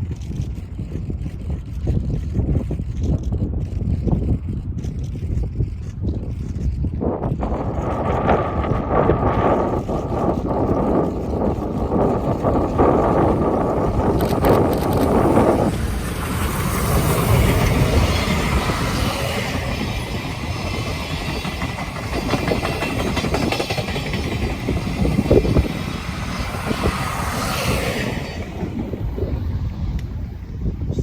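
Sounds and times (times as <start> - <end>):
train wheels clicking over rail joints: 0.0 - 30.1.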